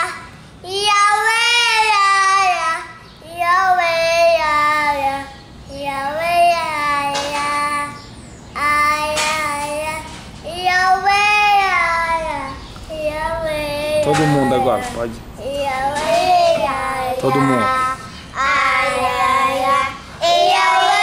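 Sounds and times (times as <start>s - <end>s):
child singing: 0.0s - 8.0s, 8.6s - 21.0s.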